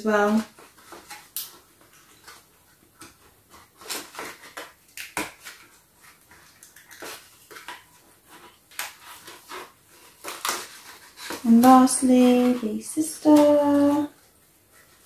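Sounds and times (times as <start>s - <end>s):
rustles and light clicks: 0.0s - 15.0s.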